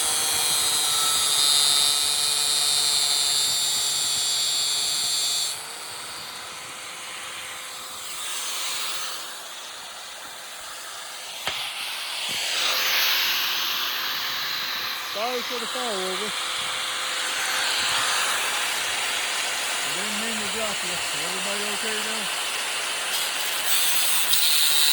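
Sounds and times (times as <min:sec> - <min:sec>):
angle grinder cutting: 0:00.0 - 0:24.9.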